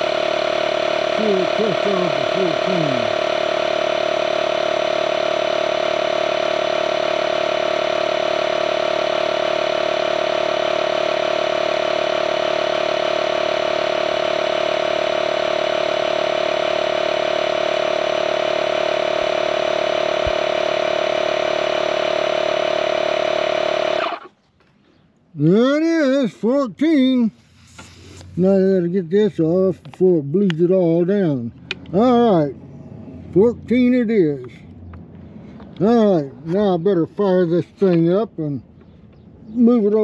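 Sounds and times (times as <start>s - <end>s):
tire inflator compressor humming: 0.0s - 25.0s, 27.3s - 40.0s.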